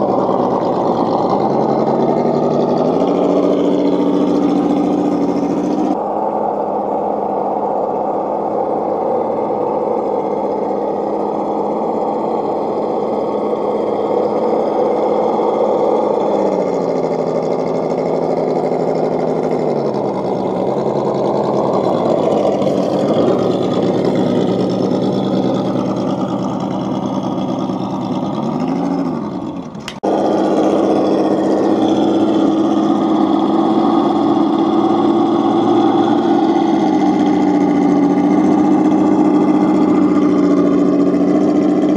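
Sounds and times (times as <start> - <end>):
rc truck motor and gear whine: 0.0 - 41.9.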